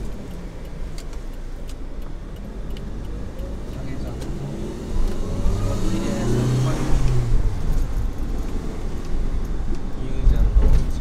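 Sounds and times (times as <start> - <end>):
car engine: 0.0 - 11.0
road noise: 0.0 - 11.0.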